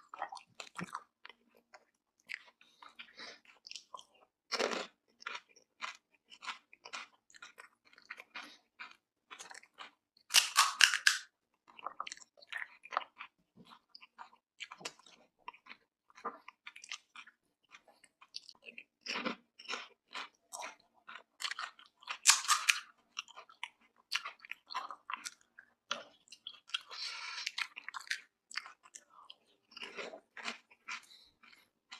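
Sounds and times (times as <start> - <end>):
chewing and crunching crisp shells: 0.0 - 31.9.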